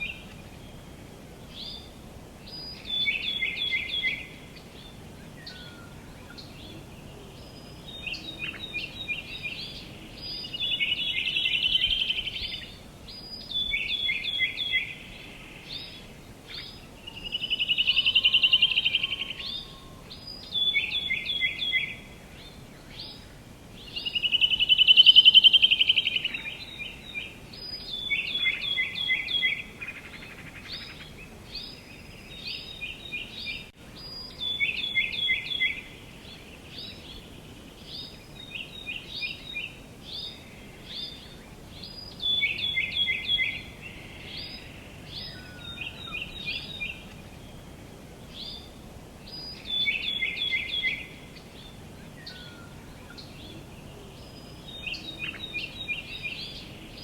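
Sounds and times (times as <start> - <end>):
songbirds chirping: 0.0 - 57.0
steady background hiss: 0.0 - 57.0.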